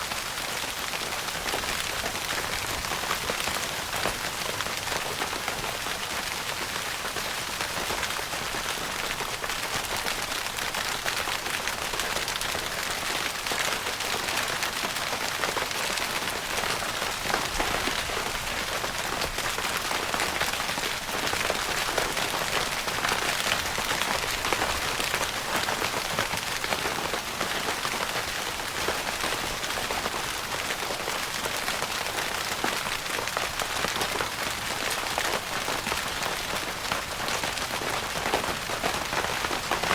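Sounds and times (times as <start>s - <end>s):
rain pattering on tent fabric: 0.0s - 39.9s.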